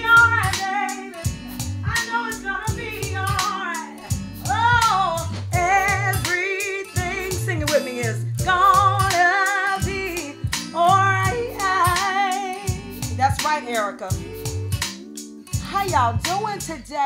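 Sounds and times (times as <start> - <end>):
woman singing with vibrato: 0.0 - 1.2, 1.8 - 14.4
backing track with bass and drums: 0.0 - 17.0.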